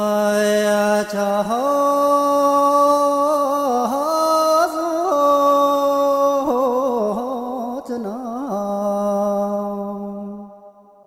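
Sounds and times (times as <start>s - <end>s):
person singing chant-like melody: 0.0s - 10.8s.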